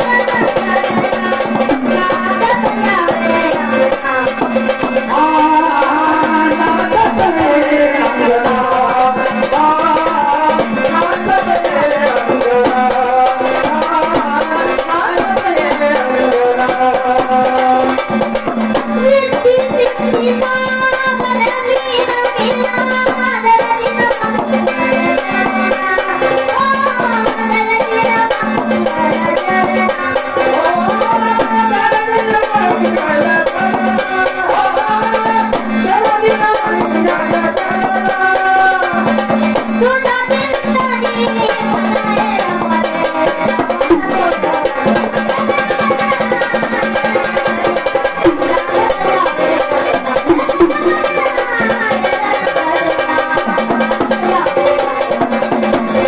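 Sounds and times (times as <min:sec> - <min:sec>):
child singing: 0:00.0 - 0:56.0
folk percussion: 0:00.0 - 0:56.0.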